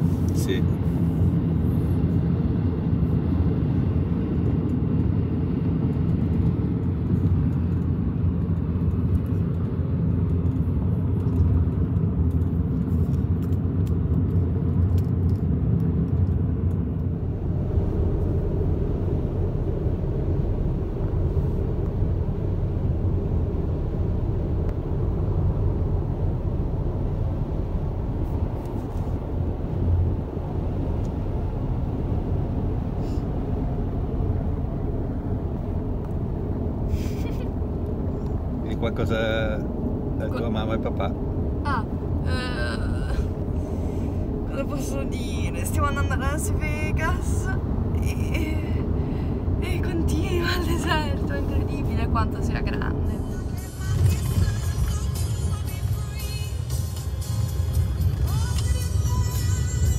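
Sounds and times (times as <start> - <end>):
car driving interior rumble: 0.0 - 59.9.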